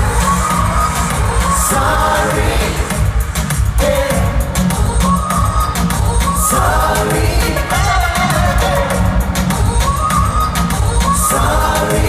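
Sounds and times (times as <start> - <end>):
loud live music with pounding bass: 0.0 - 12.0.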